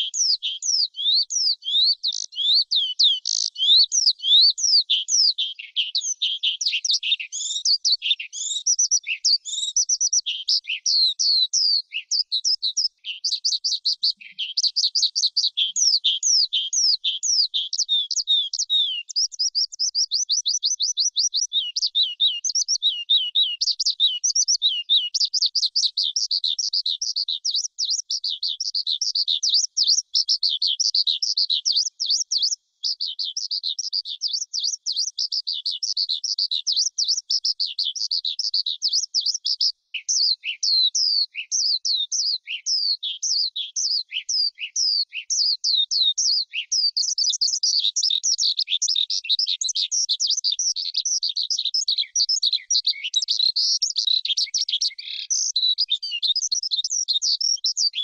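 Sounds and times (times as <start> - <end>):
skylark singing: 0.0 - 58.0.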